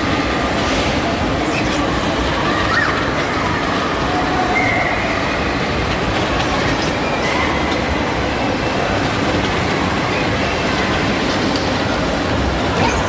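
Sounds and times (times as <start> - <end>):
bumper cars rumbling over floor: 0.0 - 13.0.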